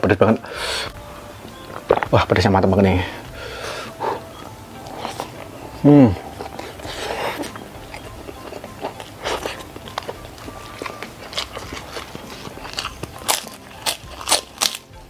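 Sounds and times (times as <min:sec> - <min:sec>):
close chewing: 0:00.4 - 0:15.0.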